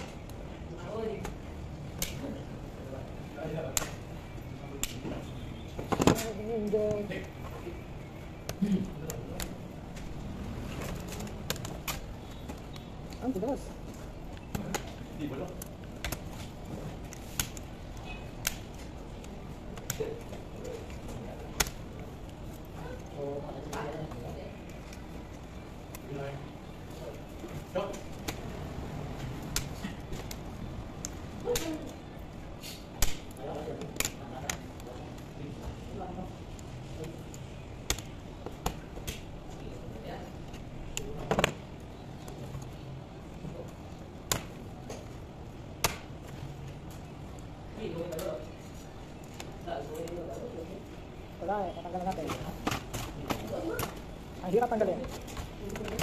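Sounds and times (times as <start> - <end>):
background noise: 0.0 - 56.0.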